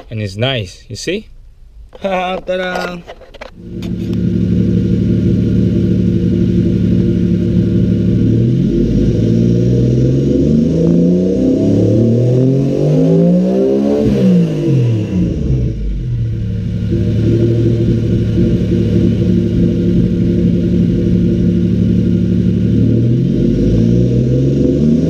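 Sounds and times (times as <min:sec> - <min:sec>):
car engine idling and revving: 0:03.4 - 0:25.0.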